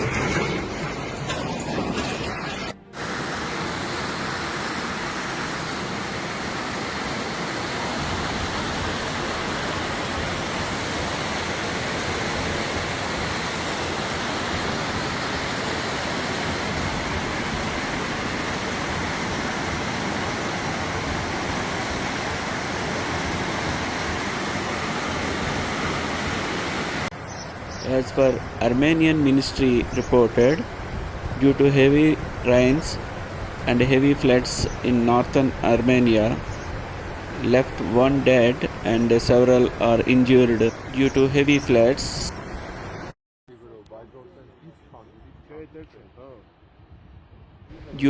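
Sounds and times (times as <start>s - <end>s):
river water rushing: 0.0s - 43.1s, 47.7s - 48.0s.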